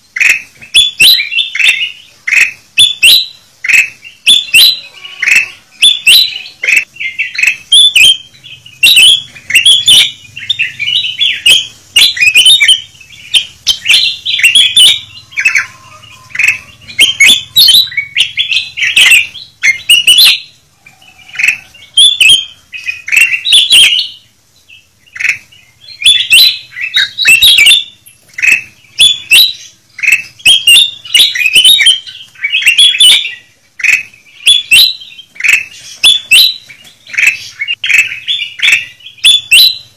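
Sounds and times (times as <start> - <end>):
birds chirping noisily: 0.0 - 39.9.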